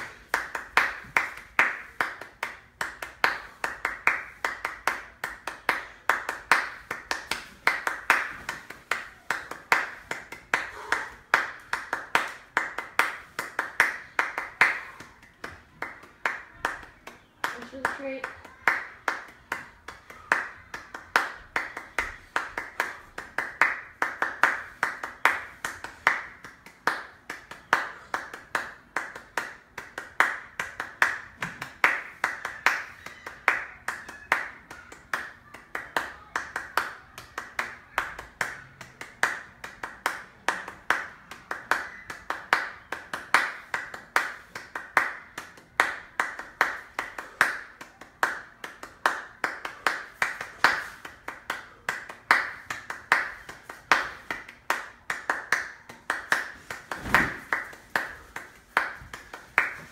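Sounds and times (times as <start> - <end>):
hands clapping rhythmically: 0.0 - 59.9.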